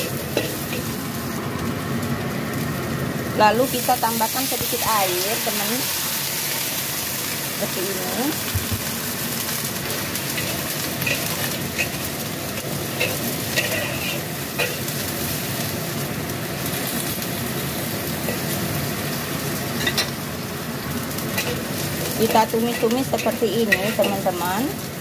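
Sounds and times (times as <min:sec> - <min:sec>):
stir-fry sizzling in a wok: 0:00.0 - 0:25.0.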